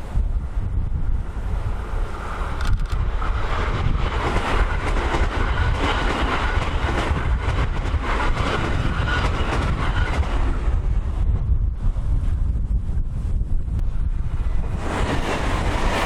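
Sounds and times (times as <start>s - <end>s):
electric train passing: 0.0s - 12.7s, 13.3s - 16.0s
wind buffeting microphone: 0.0s - 16.0s.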